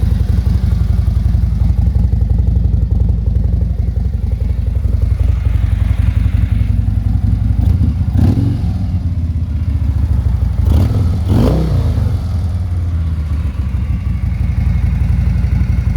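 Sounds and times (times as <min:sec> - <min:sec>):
motorcycle engine idling: 0:00.0 - 0:15.9
motorcycle engine revving: 0:00.0 - 0:15.9.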